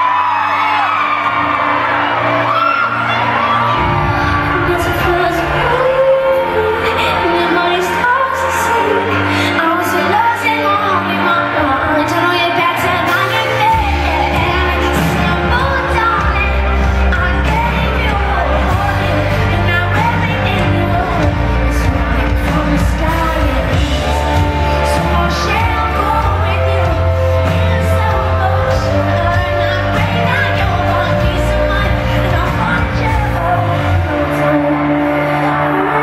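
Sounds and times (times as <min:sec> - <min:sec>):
live band playing: 0:00.0 - 0:36.0
woman singing: 0:02.9 - 0:36.0.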